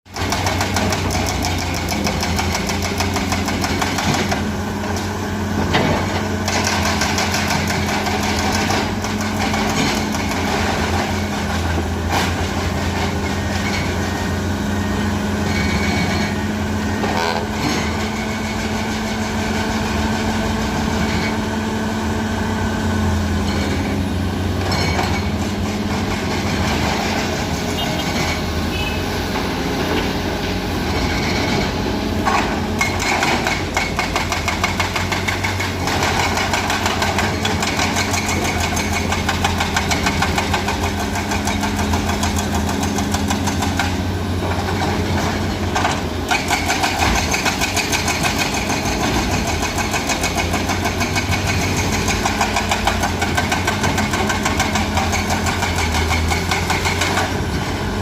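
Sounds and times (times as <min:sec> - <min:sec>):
excavator diesel engine running: 0:00.1 - 0:58.0.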